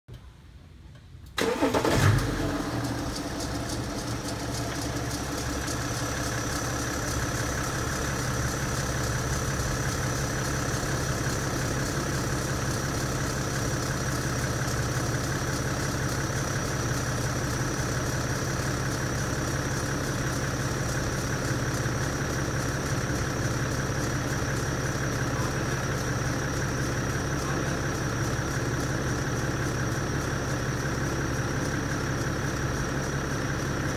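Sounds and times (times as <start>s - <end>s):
diesel engine starting and idling: 0.1s - 33.9s.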